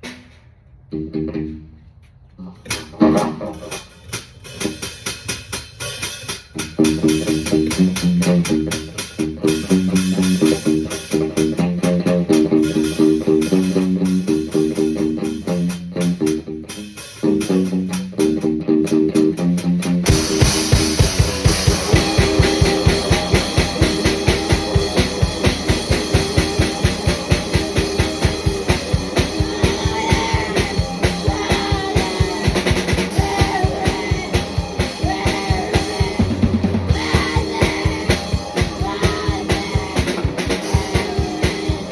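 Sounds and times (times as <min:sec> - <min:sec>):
guitar and drums playing riff: 0:00.9 - 0:01.8, 0:02.4 - 0:41.9
fast bass drum strokes: 0:02.5 - 0:18.5, 0:19.1 - 0:41.9.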